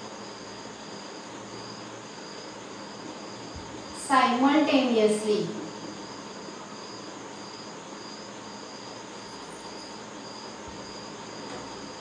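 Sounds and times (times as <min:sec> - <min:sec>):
background hiss: 0:00.0 - 0:12.0
cricket chirping: 0:00.0 - 0:12.0.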